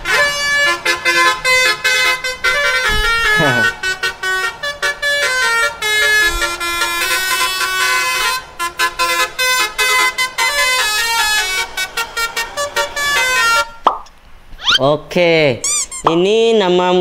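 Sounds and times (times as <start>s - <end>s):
air horn playing a tune: 0.0s - 13.8s.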